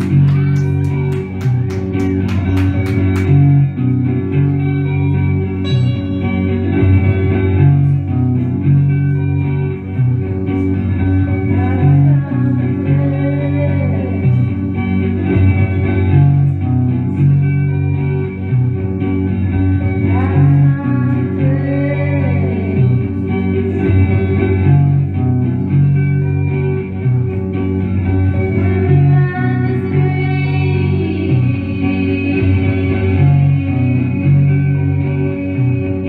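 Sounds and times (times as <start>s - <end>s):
bass notes: 0.0s - 36.0s
electric guitar melody: 0.0s - 36.0s.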